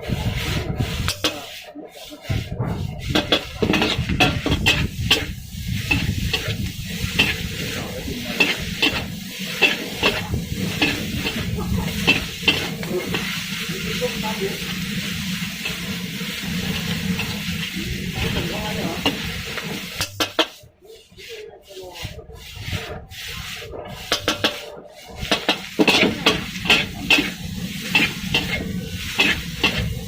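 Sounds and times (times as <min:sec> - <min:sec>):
hot oil sizzling: 0:00.0 - 0:21.2, 0:22.0 - 0:30.0
metal spatula scraping a wok: 0:00.0 - 0:30.0.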